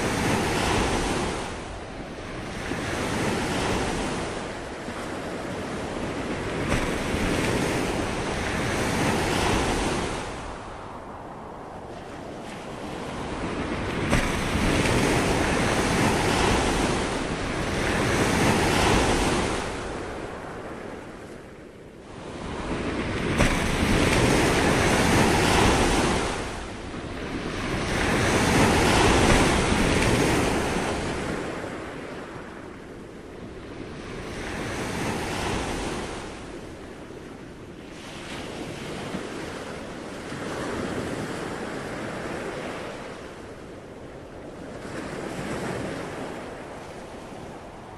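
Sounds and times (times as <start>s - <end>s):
ocean waves washing in: 0.0s - 47.9s.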